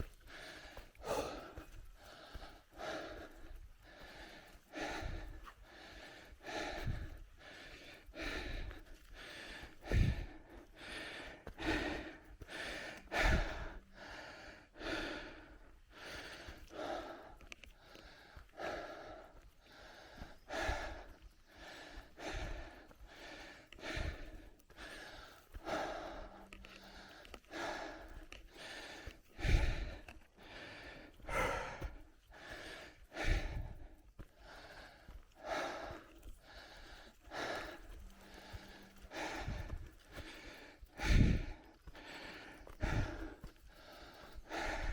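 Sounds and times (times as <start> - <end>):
cyclist breathing hard: 0.0 - 44.9.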